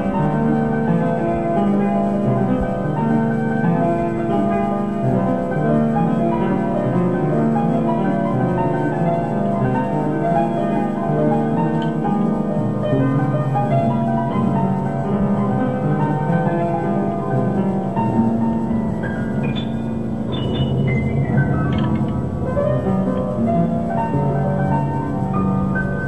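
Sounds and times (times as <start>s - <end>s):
slow layered keyboard notes: 0.0s - 26.0s.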